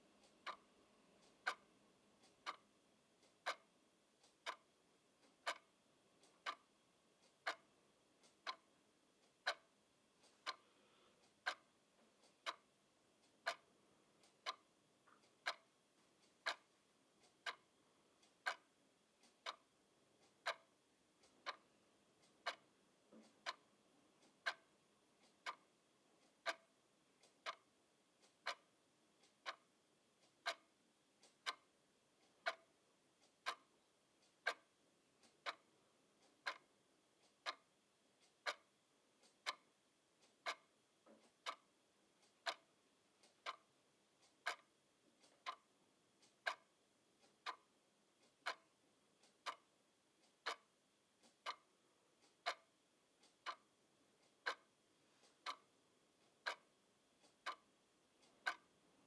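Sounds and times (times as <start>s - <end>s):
clock ticking: 0.0s - 59.0s.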